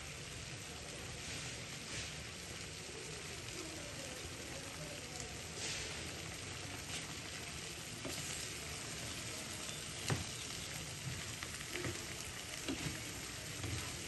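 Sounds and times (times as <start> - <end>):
chickpeas sizzling in oil: 0.0 - 14.0.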